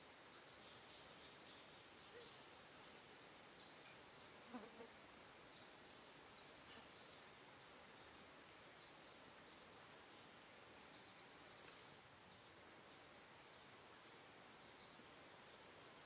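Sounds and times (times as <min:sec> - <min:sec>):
soft hiss: 0:00.0 - 0:16.0.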